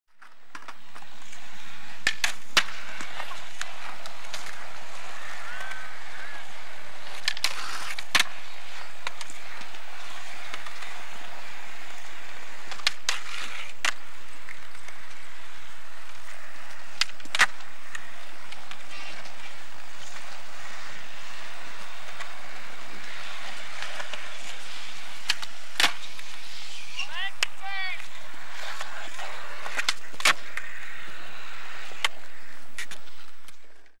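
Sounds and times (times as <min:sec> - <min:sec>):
skateboard wheels rolling on concrete: 0:00.1 - 0:34.0
skateboard clacks: 0:00.2 - 0:34.0.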